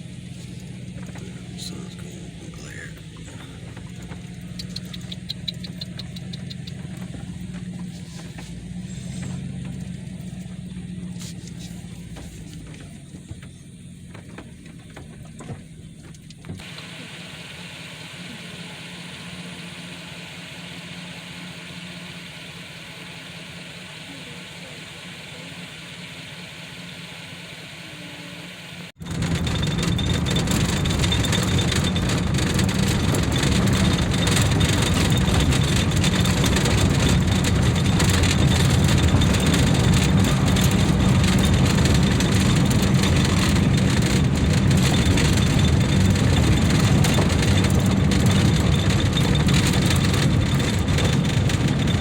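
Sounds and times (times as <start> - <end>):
engine and road noise rumble: 0.0 - 52.0.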